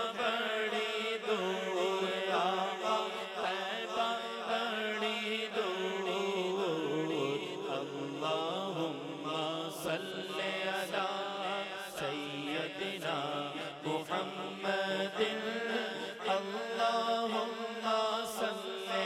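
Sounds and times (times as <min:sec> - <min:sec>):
men chanting through a microphone: 0:00.0 - 0:19.0.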